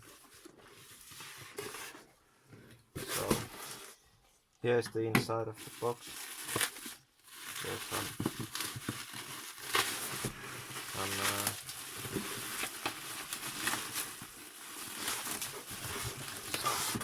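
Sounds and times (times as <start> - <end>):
packaging rustling and crinkling: 0.0 - 2.1, 3.0 - 4.3, 5.4 - 17.0.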